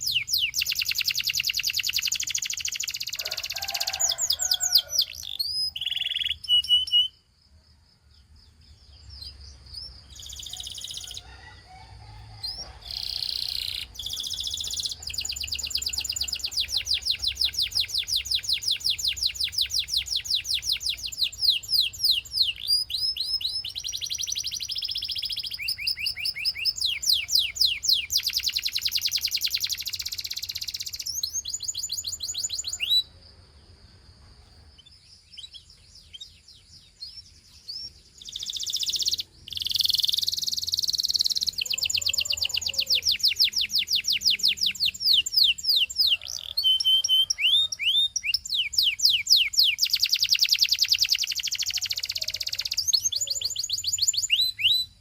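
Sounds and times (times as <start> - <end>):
canary trilling: 0.0 - 7.2, 9.8 - 33.1, 37.8 - 55.0
canary chirps: 0.0 - 7.3, 8.2 - 33.2, 34.4 - 55.0.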